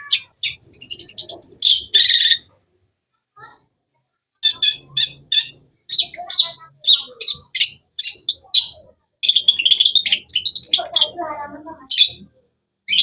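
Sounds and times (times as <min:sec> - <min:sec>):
bird sharp chirps and chatter: 0:00.0 - 0:02.5, 0:04.4 - 0:12.3.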